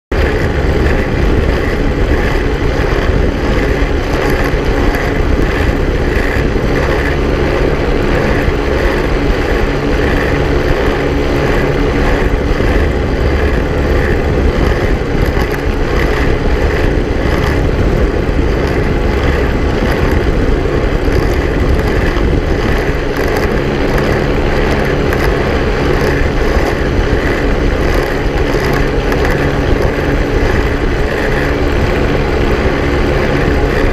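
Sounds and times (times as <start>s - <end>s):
ultralight engine and propeller: 0.0s - 33.9s.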